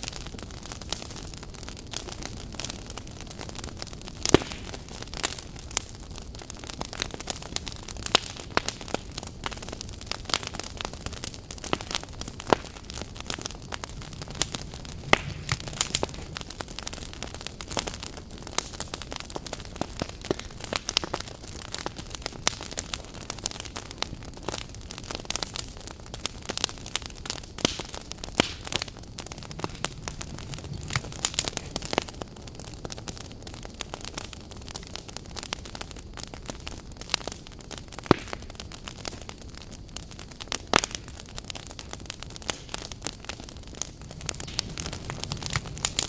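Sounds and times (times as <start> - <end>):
firewood crackling and popping: 0.0 - 46.0
low rush of flame: 0.0 - 46.0.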